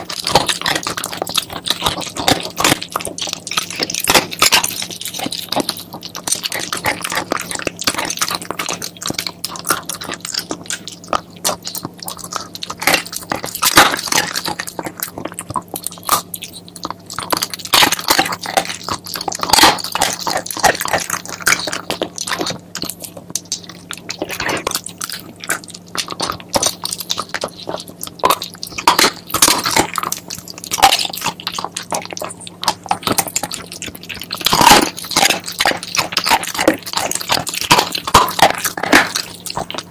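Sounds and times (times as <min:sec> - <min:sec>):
dog chewing bones: 0:00.0 - 0:39.9.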